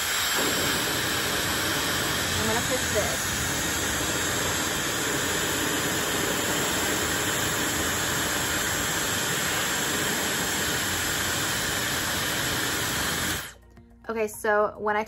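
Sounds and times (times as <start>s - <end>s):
hair dryer running: 0.0s - 13.6s.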